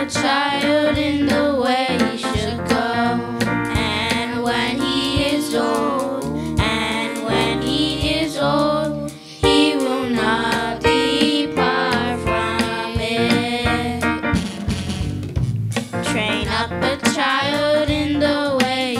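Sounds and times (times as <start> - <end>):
children singing into microphones: 0.0 - 14.0, 16.1 - 18.9
instrumental backing track: 0.0 - 18.9.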